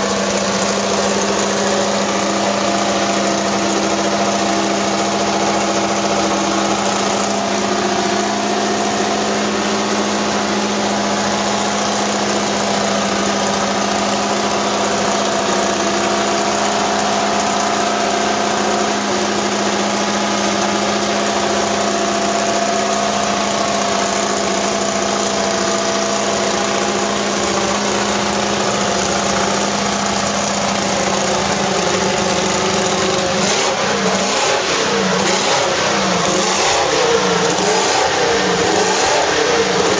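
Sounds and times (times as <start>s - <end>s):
car engine idling: 0.0s - 39.9s
engine throttle blips: 0.0s - 39.9s.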